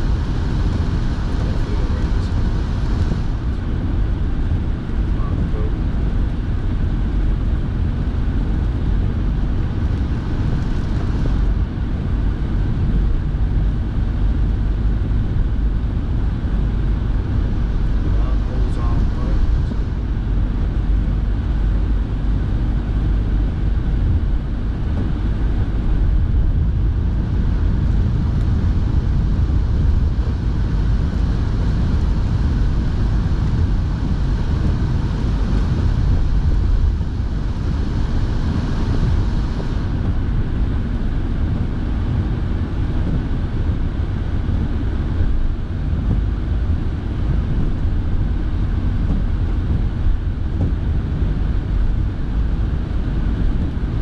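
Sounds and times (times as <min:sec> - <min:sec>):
car cabin rumble on wet road: 0:00.0 - 0:54.0
heater fan blowing: 0:00.0 - 0:54.0.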